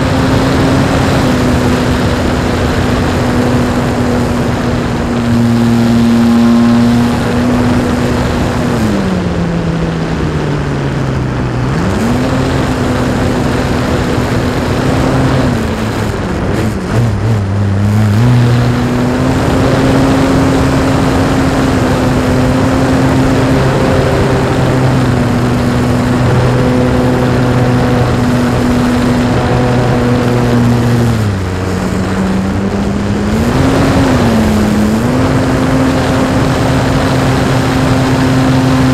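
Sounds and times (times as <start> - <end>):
wind rushing over camera: 0.0 - 38.9.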